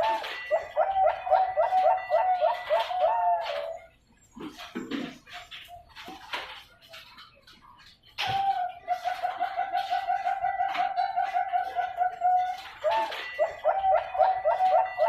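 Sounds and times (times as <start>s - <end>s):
dove cooing: 0.0s - 6.0s, 8.2s - 15.0s.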